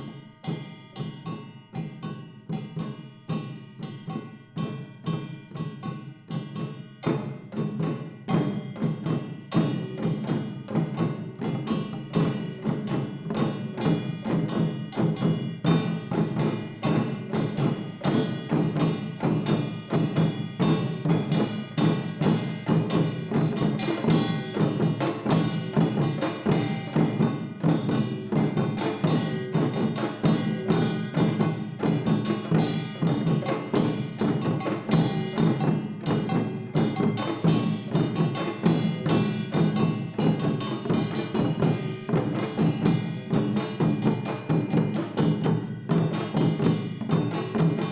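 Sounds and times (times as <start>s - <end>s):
percussion ensemble playing: 0.0s - 47.9s.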